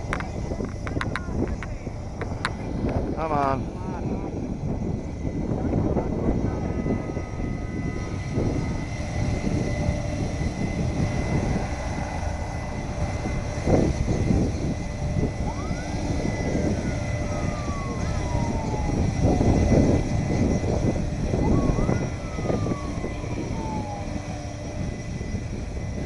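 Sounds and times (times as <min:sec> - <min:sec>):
airliner engines running: 0:00.0 - 0:26.0.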